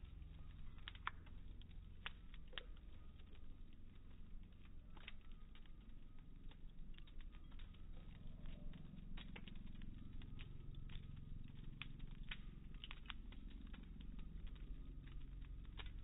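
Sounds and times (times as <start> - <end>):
low rumble: 0.0 - 16.0
wood fire crackling: 0.0 - 16.0.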